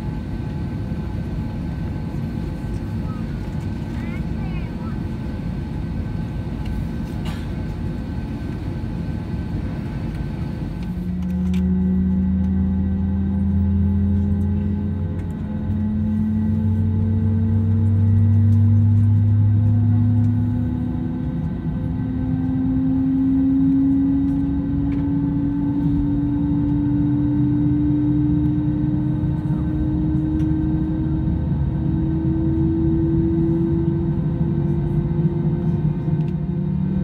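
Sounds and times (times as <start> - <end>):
deeper engine hum: 0.0 - 37.0
jet engine rumble and whine: 0.0 - 37.0.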